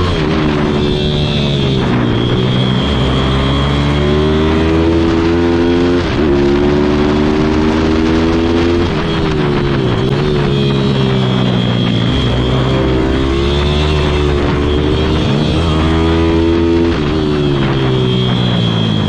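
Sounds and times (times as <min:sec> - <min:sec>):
motorbike engine revving hard: 0:00.0 - 0:19.0.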